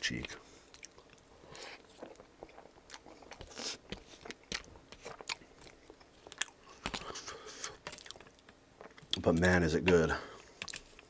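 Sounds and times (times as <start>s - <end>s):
chewing and wet mouth sounds: 0.2s - 11.0s.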